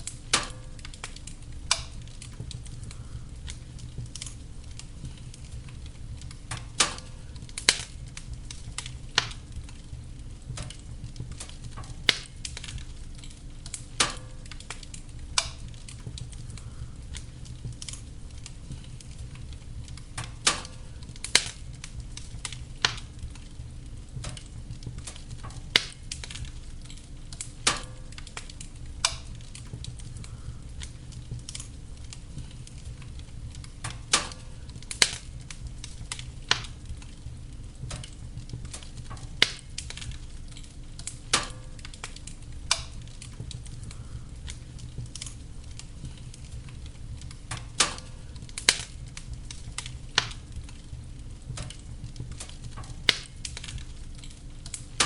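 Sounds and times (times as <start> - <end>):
fire rumbling and hissing: 0.0 - 55.0
logs crackling and popping: 0.0 - 55.0.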